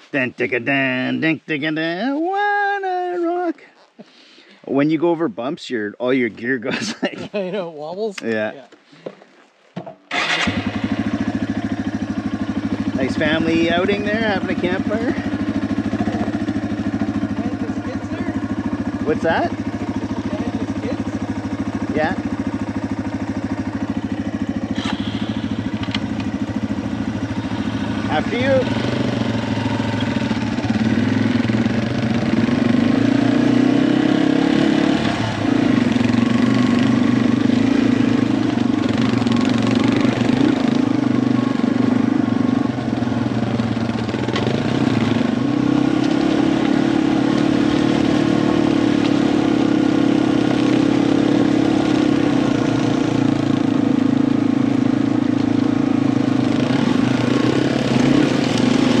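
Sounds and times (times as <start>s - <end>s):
motorcycle engine running: 10.1s - 59.0s.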